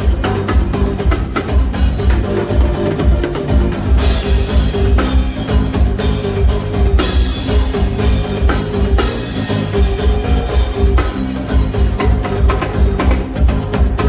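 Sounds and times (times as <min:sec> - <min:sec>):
drum kit beat: 0:00.0 - 0:14.0
sustained bass and chord notes: 0:00.0 - 0:14.0.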